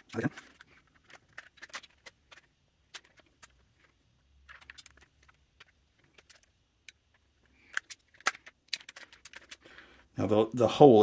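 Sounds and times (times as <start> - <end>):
faint clicks and taps: 0.0 - 9.8.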